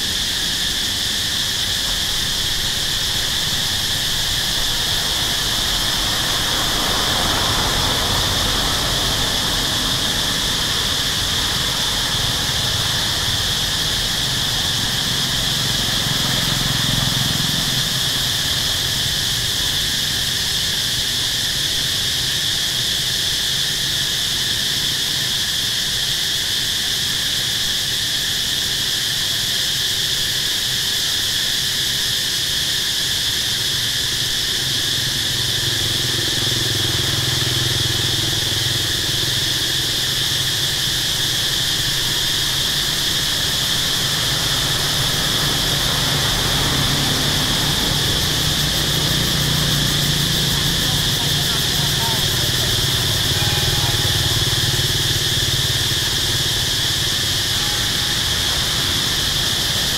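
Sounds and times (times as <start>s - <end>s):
distant traffic rumble: 0.0s - 25.9s, 32.6s - 59.9s
shrill insect chorus: 0.0s - 59.9s.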